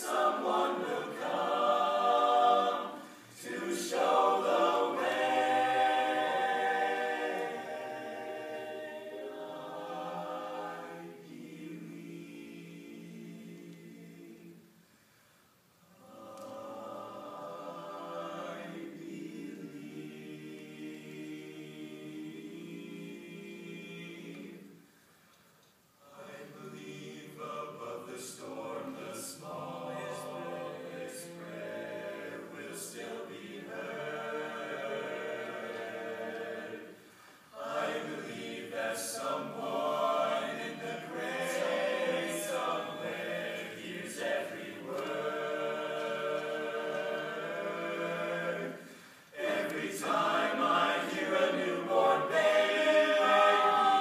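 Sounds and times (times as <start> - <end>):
male group singing in harmony: 0.0 - 14.6, 16.0 - 24.8, 26.1 - 54.0.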